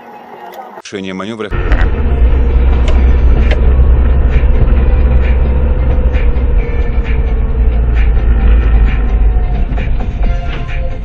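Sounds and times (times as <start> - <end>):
moving vehicle rumble: 1.5 - 11.0.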